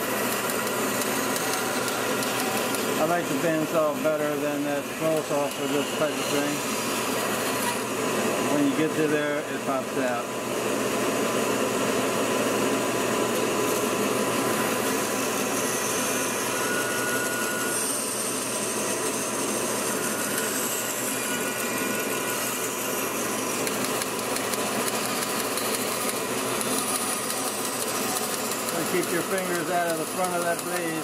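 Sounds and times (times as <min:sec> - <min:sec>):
bandsaw cutting wood: 0:00.0 - 0:10.3, 0:13.2 - 0:31.0
dust collector vacuum running: 0:00.0 - 0:31.0.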